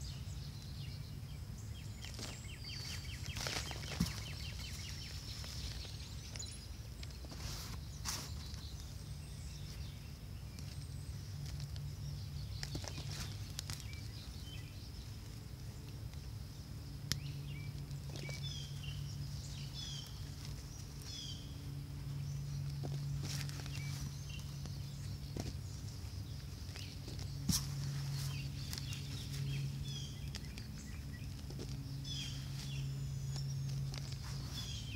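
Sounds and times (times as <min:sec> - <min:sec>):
birds chirping: 0:00.0 - 0:34.9
steady low hum: 0:00.0 - 0:34.9
hand digging through soil: 0:01.8 - 0:16.2, 0:17.0 - 0:34.9.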